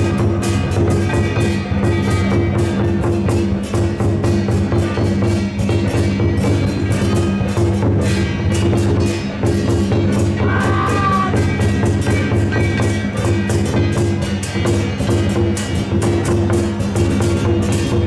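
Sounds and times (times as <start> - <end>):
drums and cymbals beating: 0.0 - 18.0.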